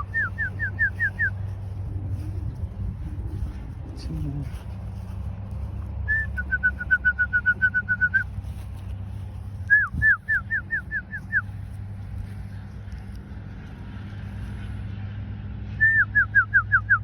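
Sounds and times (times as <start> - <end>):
steady low rumble: 0.0 - 15.8.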